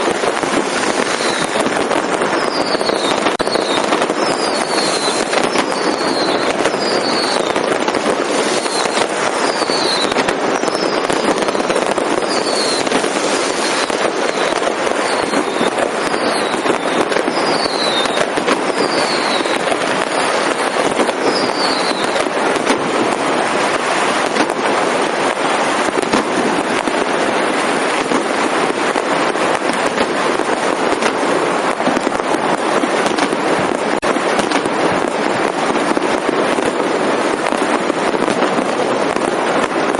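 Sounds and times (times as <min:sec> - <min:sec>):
falling firework whistles: 0:00.0 - 0:39.9
fireworks crackling and banging: 0:00.0 - 0:39.9.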